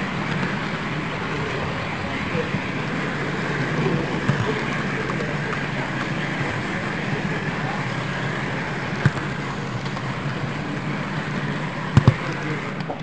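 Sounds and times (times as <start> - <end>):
model train rolling hum: 0.0 - 13.0.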